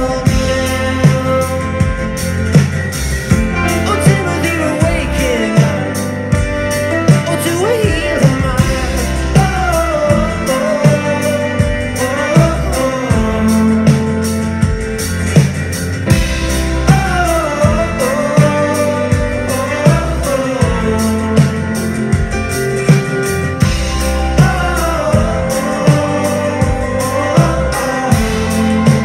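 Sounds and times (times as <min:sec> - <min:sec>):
drum hits: 0:00.0 - 0:29.0
folk rock band playing: 0:00.0 - 0:29.0.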